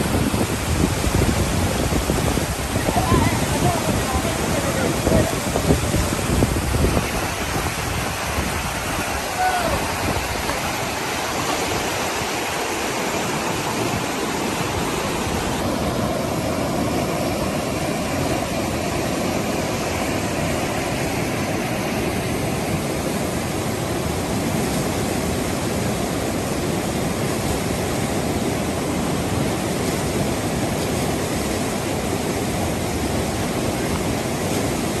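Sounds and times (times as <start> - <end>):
flood water rushing: 0.0 - 35.0.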